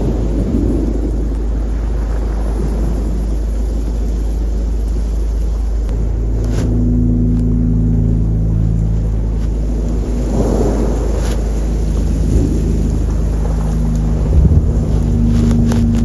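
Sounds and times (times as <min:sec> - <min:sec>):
motor engine humming: 0:00.0 - 0:16.0
surf: 0:00.0 - 0:16.0
wind on microphone: 0:00.0 - 0:16.0.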